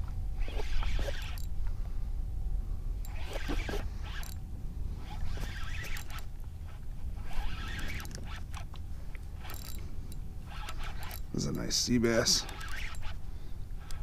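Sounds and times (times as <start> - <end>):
fishing reel whirring: 0.3 - 1.6, 3.0 - 14.0.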